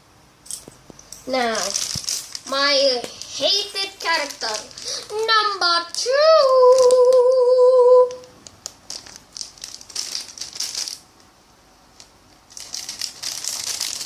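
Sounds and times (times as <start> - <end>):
plastic wrapper crinkling: 1.2 - 7.4, 8.1 - 11.3, 11.9 - 14.0.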